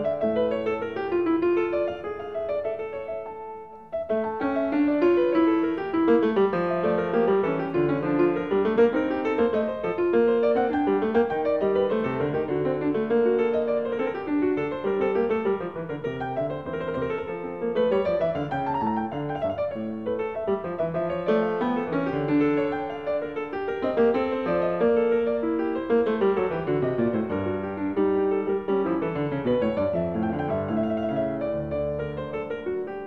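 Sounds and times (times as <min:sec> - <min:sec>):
instrumental piano music: 0:00.0 - 0:33.0.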